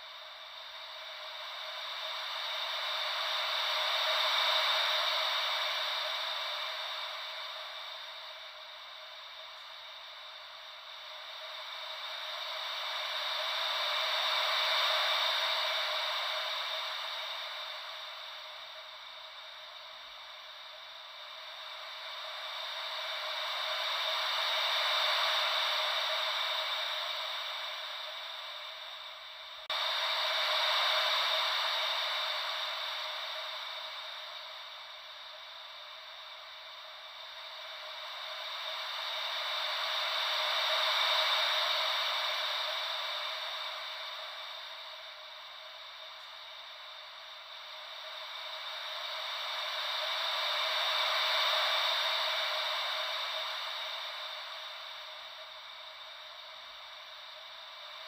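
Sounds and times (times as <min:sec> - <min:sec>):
white noise ocean waves: 0:00.2 - 0:58.0.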